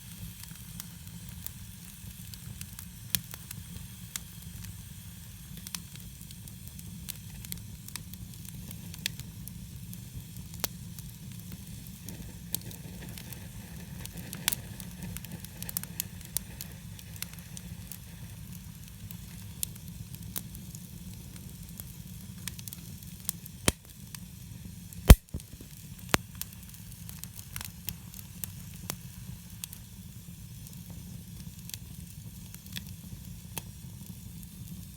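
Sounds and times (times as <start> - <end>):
campfire crackling and popping: 0.0 - 34.9
low fire rumble: 0.0 - 34.9.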